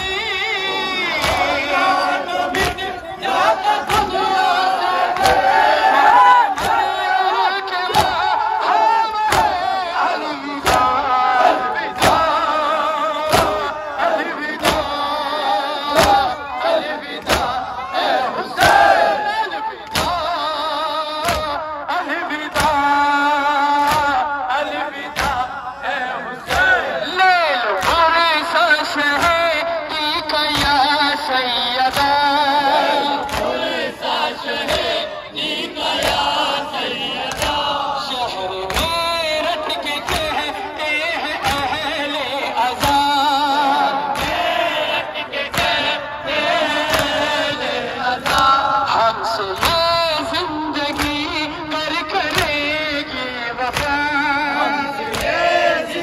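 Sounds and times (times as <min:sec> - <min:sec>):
men beating their chests: 0:00.0 - 0:56.0
men chanting: 0:00.0 - 0:56.0
men singing a lament: 0:00.0 - 0:56.0.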